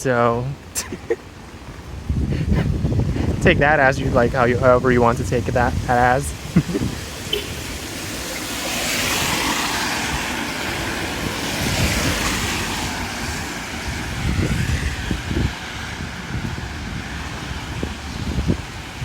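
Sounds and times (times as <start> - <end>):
wind rumbling on microphone: 0.0 - 19.0
car tyres hissing on wet street: 2.8 - 19.0.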